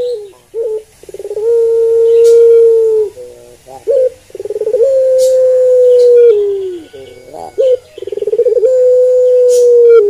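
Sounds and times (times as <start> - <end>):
dove cooing: 0.0 - 10.0.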